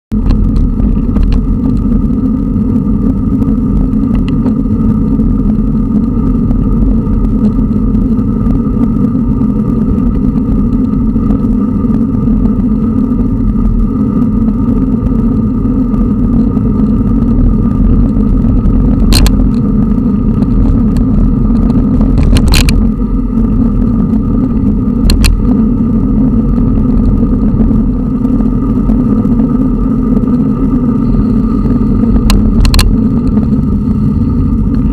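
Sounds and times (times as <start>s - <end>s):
road traffic rumble: 0.1s - 34.9s
wind rush: 0.1s - 34.9s.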